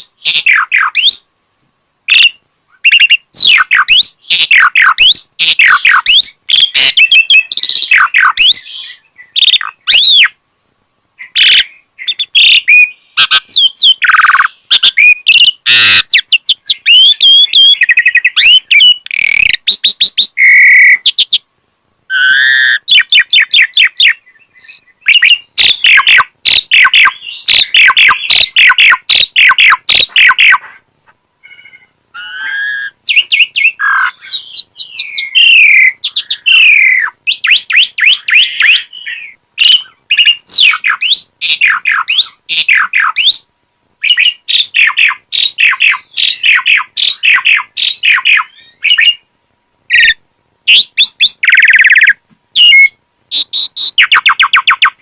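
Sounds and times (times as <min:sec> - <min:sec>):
starling singing: 0:00.0 - 0:01.2, 0:02.1 - 0:10.4, 0:11.2 - 0:21.4, 0:22.1 - 0:30.8, 0:31.4 - 0:43.4, 0:44.0 - 0:49.2, 0:49.9 - 0:55.0.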